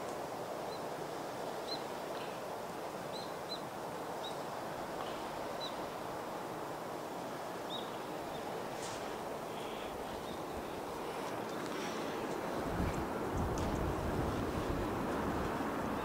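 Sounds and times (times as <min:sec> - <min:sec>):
steady rushing background noise: 0:00.0 - 0:16.0.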